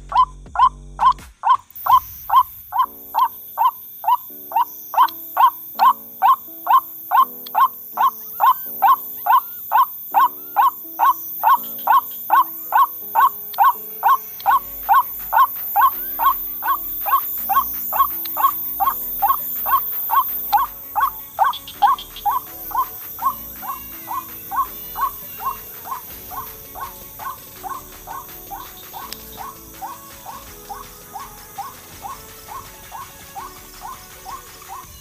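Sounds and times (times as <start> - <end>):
background music: 0.0 - 35.0
bird calling short hooked notes: 0.1 - 35.0.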